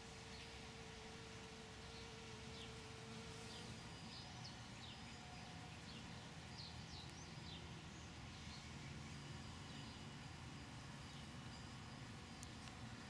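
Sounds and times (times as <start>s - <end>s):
low steady background hum: 0.0s - 13.0s
small birds chirping: 1.7s - 13.0s.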